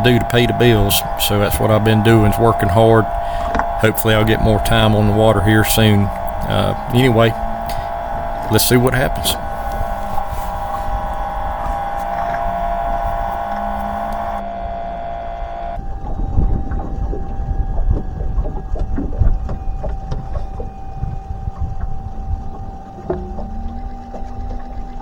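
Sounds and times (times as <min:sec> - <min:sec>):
boat knocks and bumps: 0:00.0 - 0:25.0
boat motor whine: 0:00.0 - 0:25.0
low rumble: 0:00.0 - 0:25.0.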